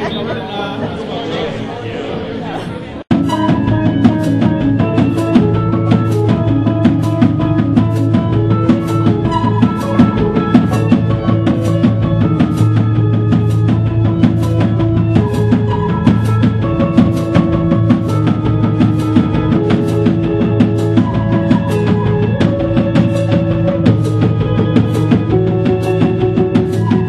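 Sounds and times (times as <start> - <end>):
keyboard sustained notes: 0.0 - 27.0
drum kit steady beat: 3.1 - 27.0
electric guitars: 3.2 - 27.0.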